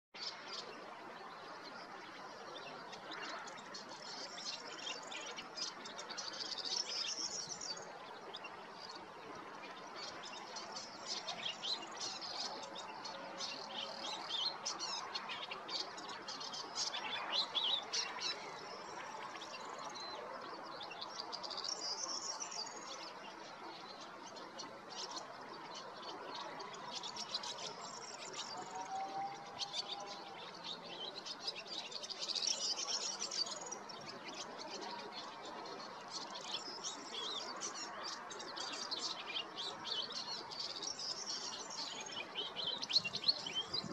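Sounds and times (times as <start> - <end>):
goldfinch twittering song: 0.2 - 43.9.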